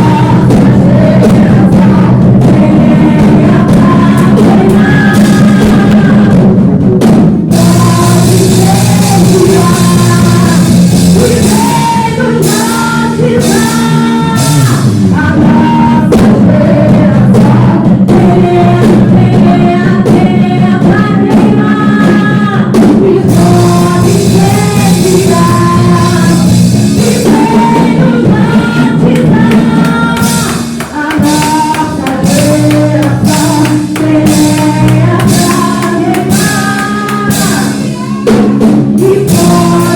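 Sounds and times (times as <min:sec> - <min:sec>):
people singing: 0:00.0 - 0:06.9, 0:07.5 - 0:39.9
worship band playing: 0:00.0 - 0:39.9.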